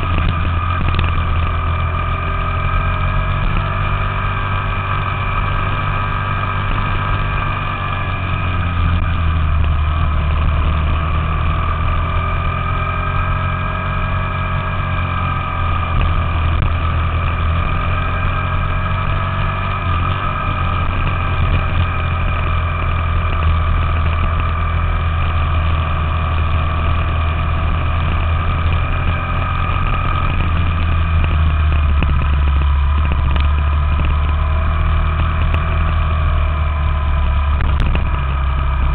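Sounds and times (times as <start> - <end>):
minibike engine running: 0.0 - 38.9.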